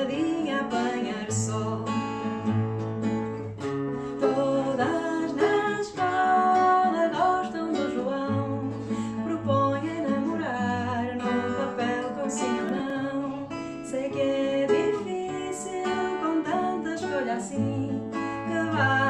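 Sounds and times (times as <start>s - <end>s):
pop song with acoustic guitar: 0.0s - 19.0s.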